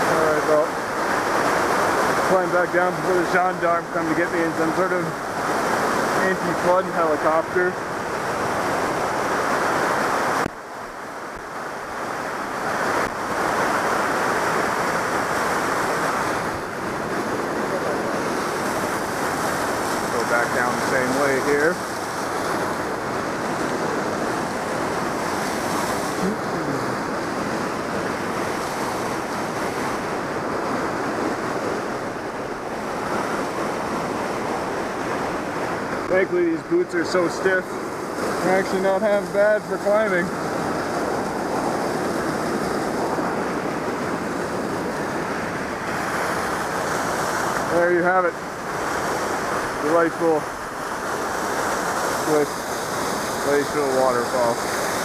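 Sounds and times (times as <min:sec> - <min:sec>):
river and waterfall rushing: 0:00.0 - 0:55.0.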